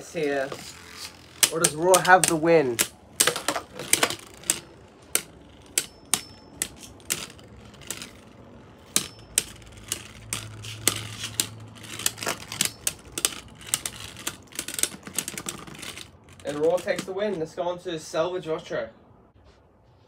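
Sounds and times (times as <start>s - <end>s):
spinning tops clashing: 0.5s - 17.1s.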